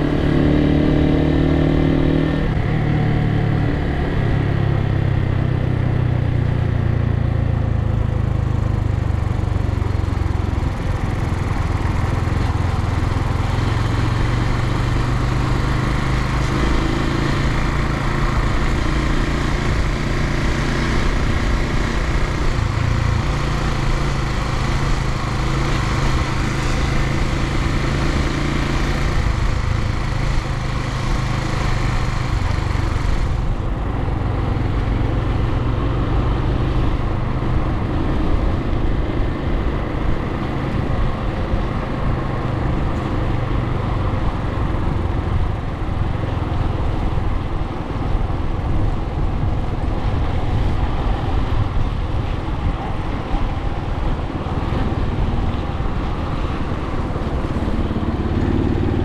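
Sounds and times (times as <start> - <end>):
single-cylinder motorcycle engine: 0.0 - 59.0
wind and road noise: 0.0 - 59.0.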